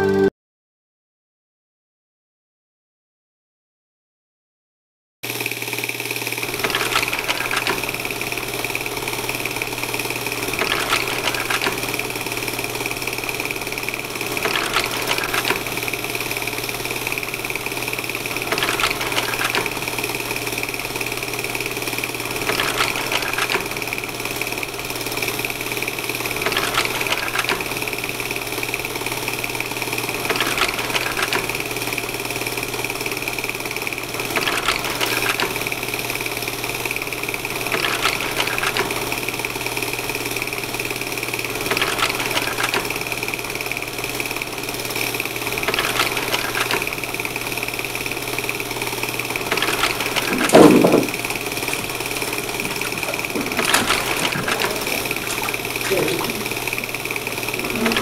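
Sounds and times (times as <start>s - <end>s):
machine whirring and humming: 5.3s - 58.0s.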